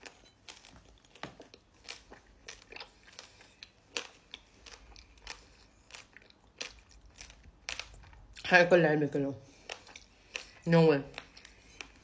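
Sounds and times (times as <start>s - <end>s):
chewing crunches: 0.0s - 8.4s, 9.5s - 12.0s.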